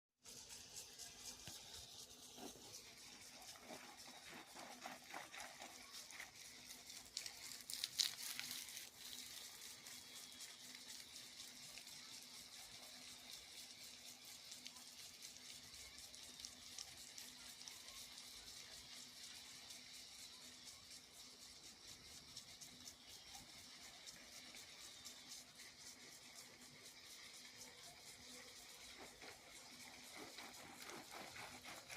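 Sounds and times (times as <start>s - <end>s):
sprinkler water spraying: 0.2s - 31.9s.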